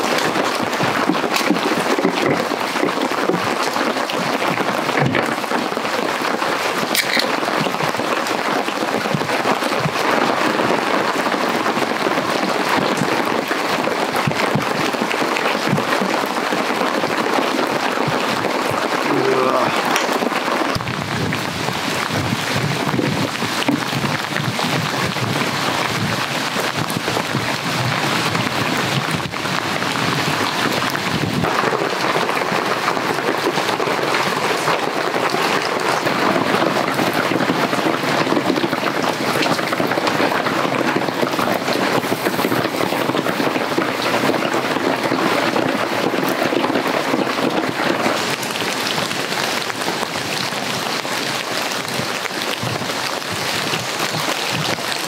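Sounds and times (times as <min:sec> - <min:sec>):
heavy rain on a tarp: 0:00.0 - 0:55.0.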